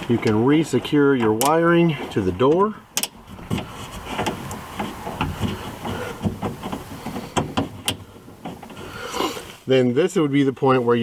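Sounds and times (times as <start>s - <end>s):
wiring rustling: 0.0s - 9.6s.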